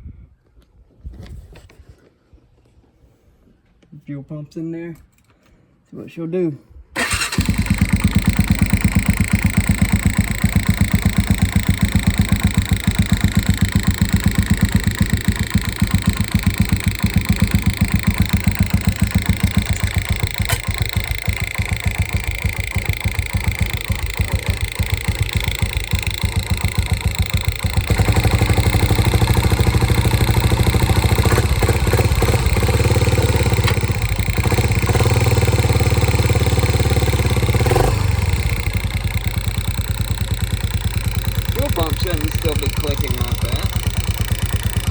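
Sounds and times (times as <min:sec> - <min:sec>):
four-stroke engine running: 0:07.0 - 0:44.9.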